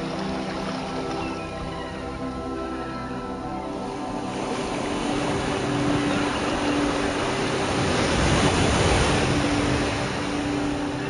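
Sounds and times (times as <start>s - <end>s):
background music with held notes: 0.0s - 11.0s
ocean surf breaking on shore: 0.0s - 11.0s.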